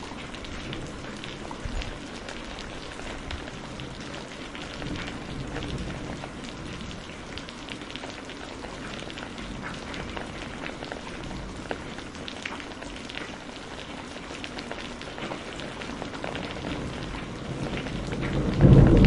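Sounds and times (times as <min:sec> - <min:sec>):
heavy rain: 0:00.0 - 0:19.0
raindrops hitting close by: 0:00.0 - 0:19.0.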